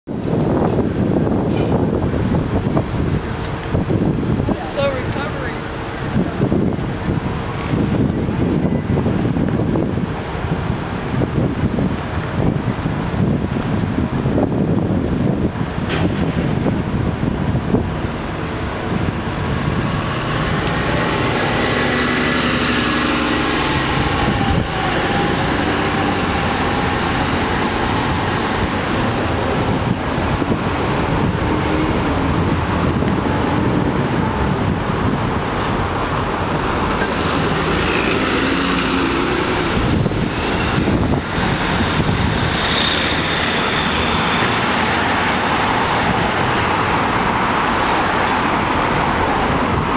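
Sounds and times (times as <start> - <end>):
bus moving off: 0.1 - 49.9
passing cars and vans: 0.1 - 49.9.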